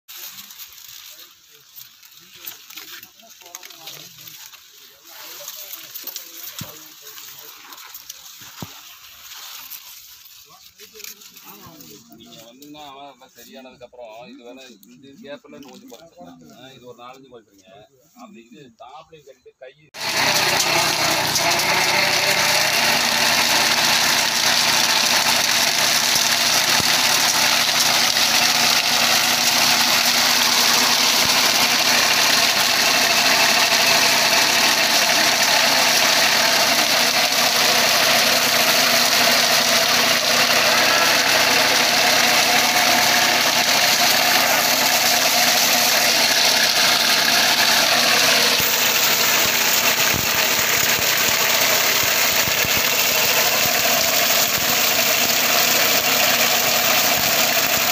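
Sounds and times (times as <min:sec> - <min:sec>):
tractor engine running: 0:00.0 - 0:12.5, 0:20.0 - 0:57.9
spinning drums stripping leaves: 0:00.0 - 0:17.2, 0:19.9 - 0:57.9.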